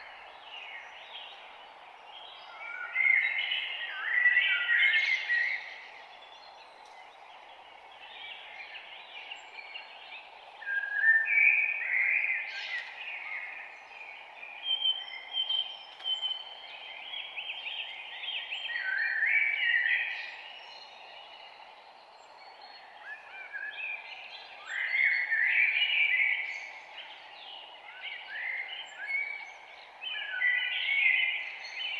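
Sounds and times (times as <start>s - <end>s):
songbirds singing: 0.0s - 31.9s.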